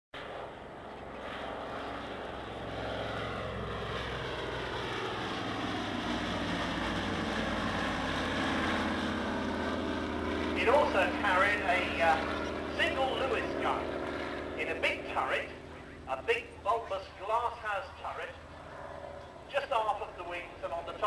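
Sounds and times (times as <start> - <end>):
aircraft radial engines droning: 0.2 - 21.0.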